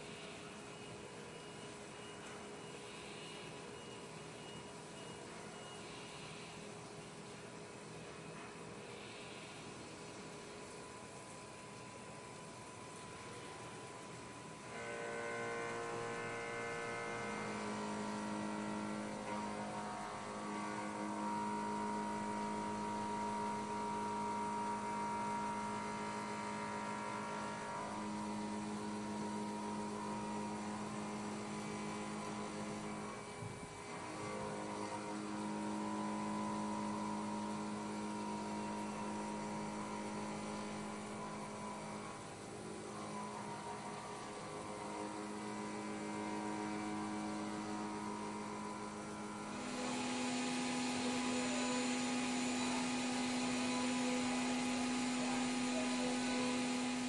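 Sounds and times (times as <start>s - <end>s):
milling machine hum: 0.0s - 57.0s.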